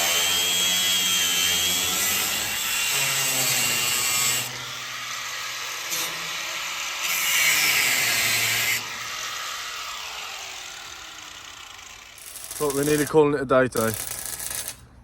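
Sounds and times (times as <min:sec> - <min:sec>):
angle grinder cutting: 0:00.0 - 0:13.2, 0:13.8 - 0:14.8.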